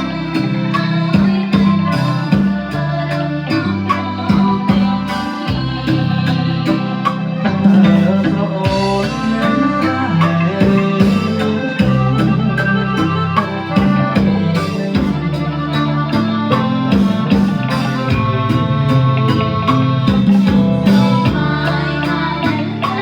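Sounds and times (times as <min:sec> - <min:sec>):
band playing music: 0:00.0 - 0:23.0
drum kit beat: 0:00.0 - 0:23.0.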